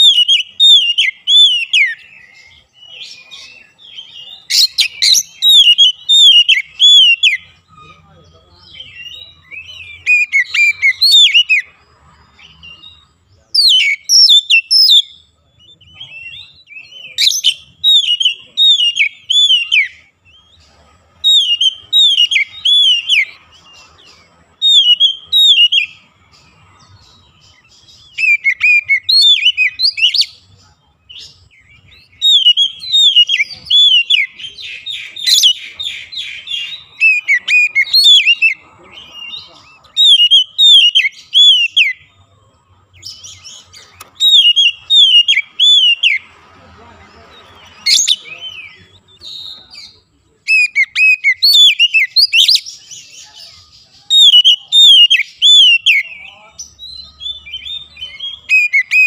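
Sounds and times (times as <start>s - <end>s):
bird singing whistled notes: 0.0s - 20.6s, 21.2s - 46.4s, 47.1s - 59.0s.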